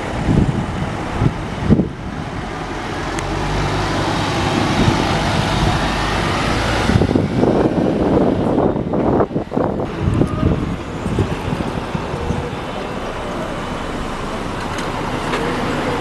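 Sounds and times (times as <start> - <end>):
bus engine humming: 0.0 - 16.0
wind buffeting microphone: 0.0 - 16.0.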